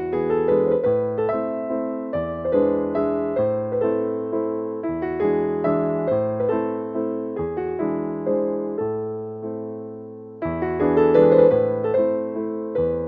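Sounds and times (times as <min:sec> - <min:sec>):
gentle keyboard music: 0:00.0 - 0:13.0.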